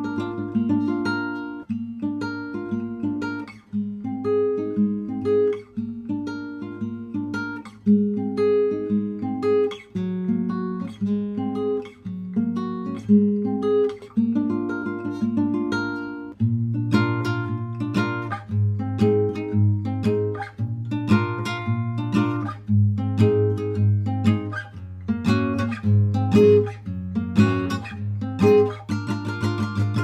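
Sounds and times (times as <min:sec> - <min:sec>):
acoustic guitar picking melody: 0:00.0 - 0:30.0.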